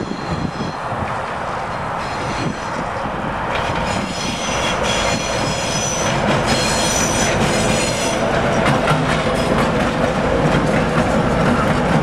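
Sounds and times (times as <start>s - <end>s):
diesel locomotive engines rumbling: 0.0s - 12.0s
wheels clacking over rail joints: 0.4s - 12.0s.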